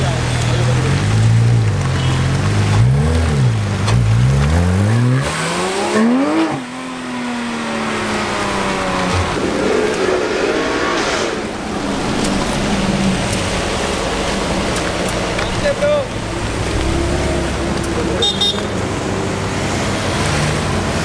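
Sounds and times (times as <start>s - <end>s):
car engine revving: 0.0s - 21.0s
traffic noise: 0.0s - 21.0s.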